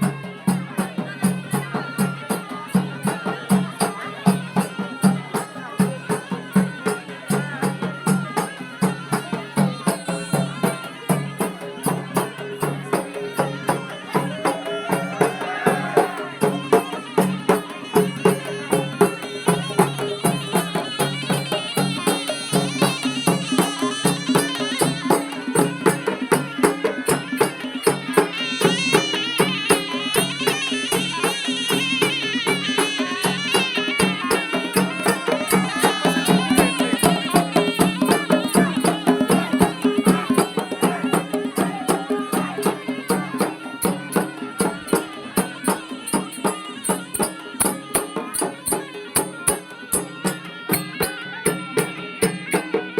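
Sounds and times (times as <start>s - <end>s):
rapid percussion strikes: 0.0s - 52.9s
reedy wind instrument melody: 0.0s - 52.9s.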